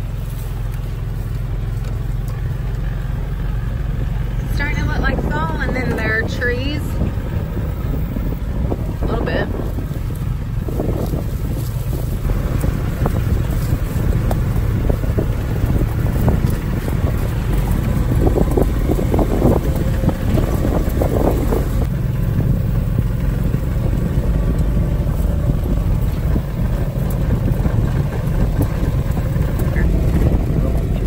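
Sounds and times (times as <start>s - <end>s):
vehicle engine rumble: 0.0s - 31.0s
wind across microphone: 3.5s - 31.0s.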